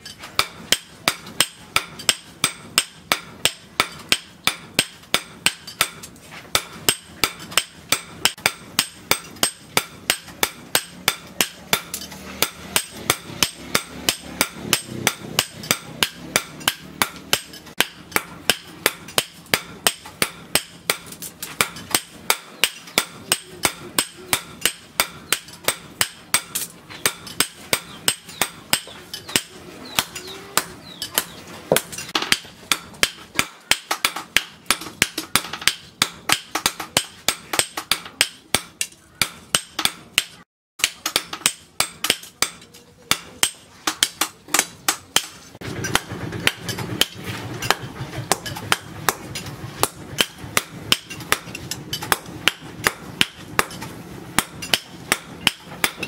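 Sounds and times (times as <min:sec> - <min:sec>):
hammer striking hot steel on anvil: 0:00.0 - 0:56.0.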